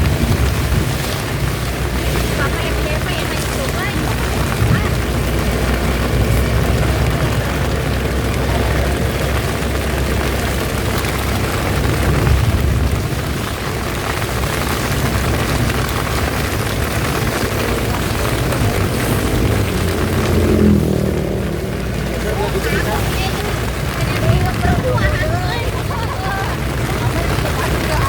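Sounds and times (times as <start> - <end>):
heavy rain: 0.0 - 28.0
vehicle rumbling along road: 0.0 - 28.0.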